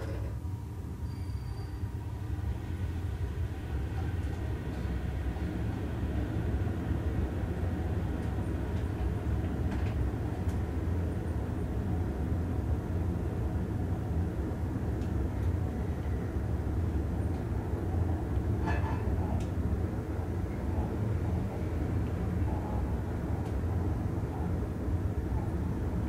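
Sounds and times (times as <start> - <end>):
elevator car rumble: 0.0 - 26.0.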